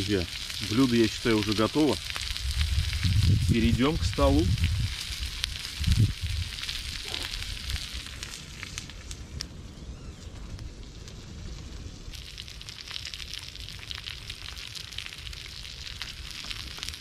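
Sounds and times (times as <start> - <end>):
eggs sizzling in frying pan: 0.0 - 9.5, 11.5 - 17.0
wood fire crackling and popping: 0.0 - 17.0.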